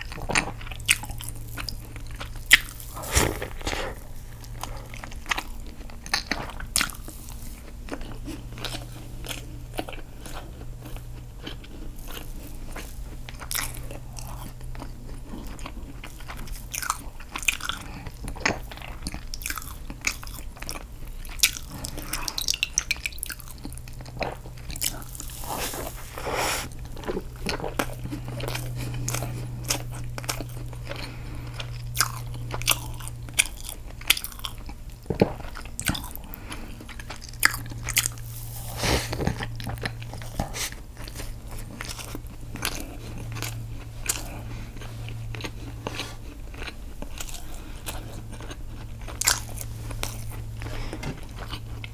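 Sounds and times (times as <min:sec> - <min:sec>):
biting and chewing cake: 0:00.0 - 0:51.9
low steady hum: 0:00.0 - 0:51.9.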